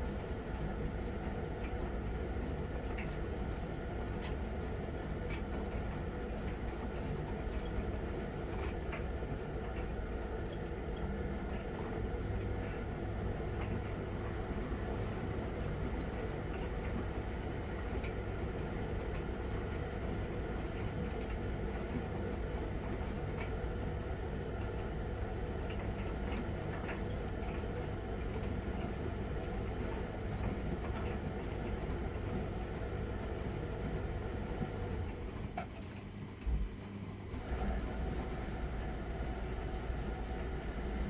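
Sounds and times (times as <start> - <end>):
washing machine humming: 0.0 - 41.0.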